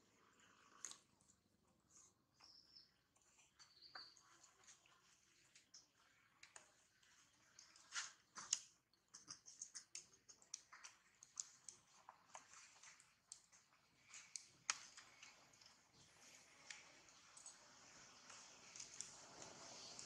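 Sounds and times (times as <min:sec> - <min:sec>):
faint irregular clicking: 0:00.2 - 0:20.0.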